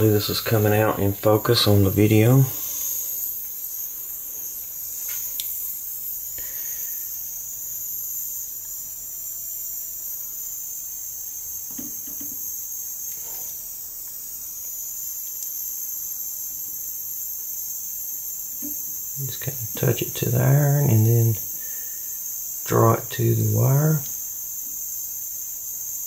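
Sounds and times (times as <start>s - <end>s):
high-pitched hiss: 0.0s - 26.0s.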